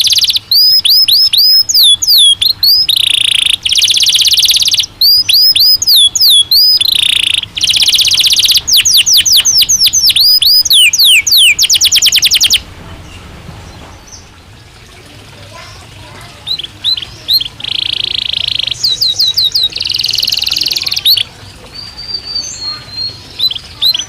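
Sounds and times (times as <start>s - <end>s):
canary singing: 0.0s - 14.6s, 15.4s - 24.0s.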